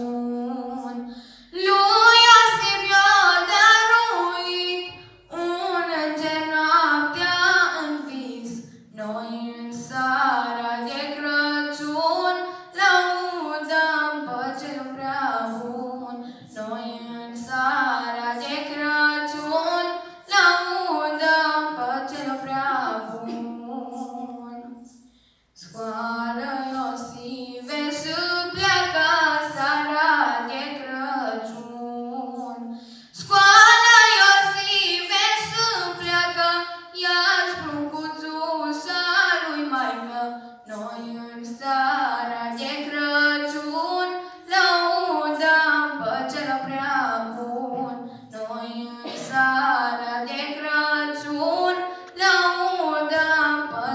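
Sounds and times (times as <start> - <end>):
women singing a cappella: 0.0 - 25.0, 25.6 - 53.9.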